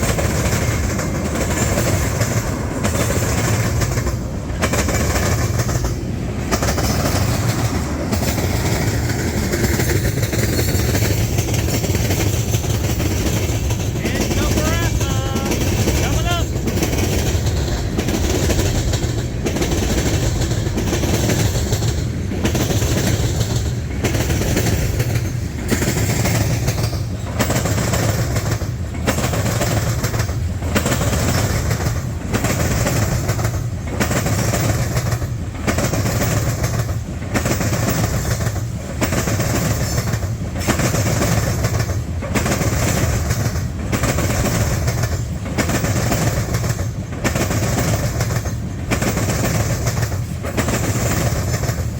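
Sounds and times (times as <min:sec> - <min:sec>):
freight train wheels clattering: 0:00.0 - 0:51.9.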